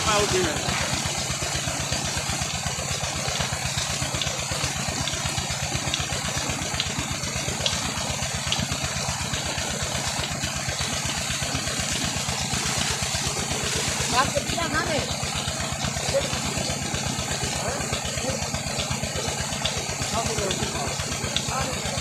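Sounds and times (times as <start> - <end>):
pump engine thudding: 0.0 - 22.0
water pouring and splashing: 0.0 - 22.0.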